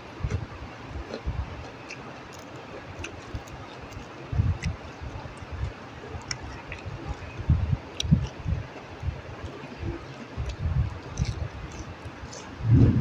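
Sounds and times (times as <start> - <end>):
chewing crunchy vegetables: 0.2 - 12.6.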